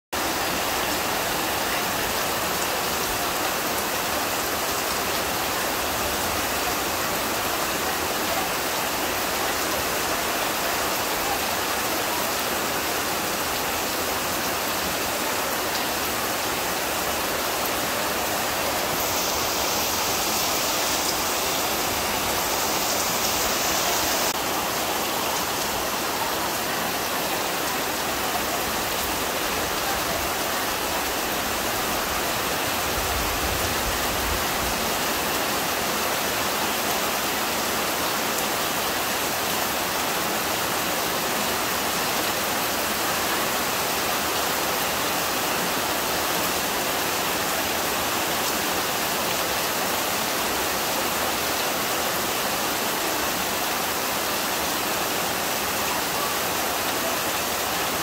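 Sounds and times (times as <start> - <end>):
heavy rain falling: 0.2 - 58.0.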